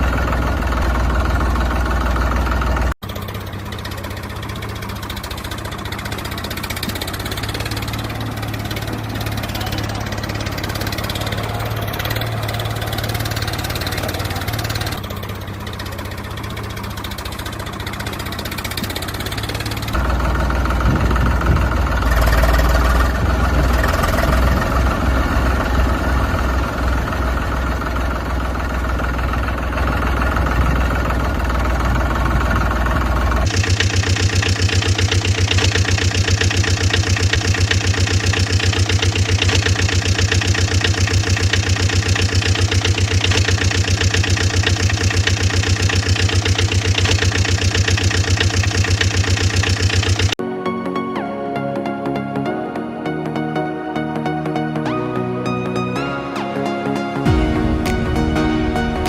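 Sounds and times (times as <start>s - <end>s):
louder engine sound: 0.0s - 50.4s
vehicle engine idling: 0.0s - 50.4s.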